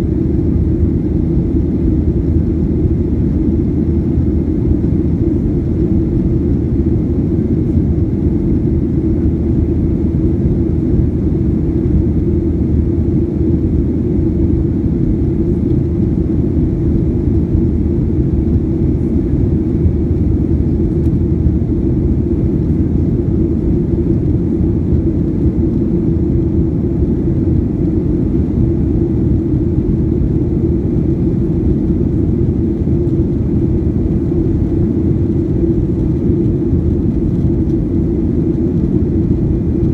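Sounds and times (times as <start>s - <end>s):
airplane engines and airflow rumble: 0.0s - 39.9s.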